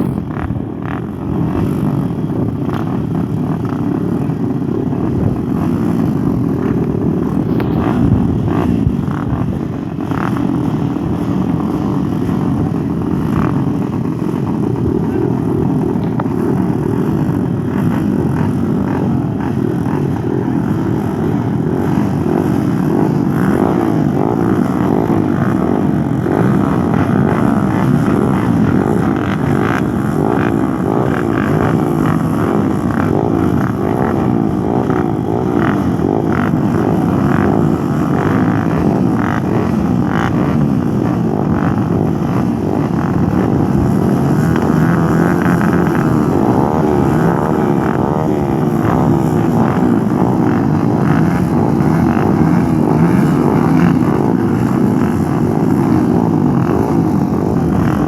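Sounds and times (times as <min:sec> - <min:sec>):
off-road motorcycle engines revving: 0:00.0 - 0:58.0.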